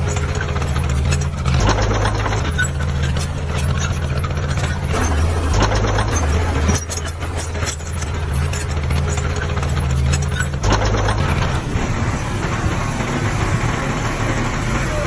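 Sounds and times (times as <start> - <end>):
heavy diesel engine running: 0.0 - 15.0
metallic clanks and rattles: 0.0 - 15.0.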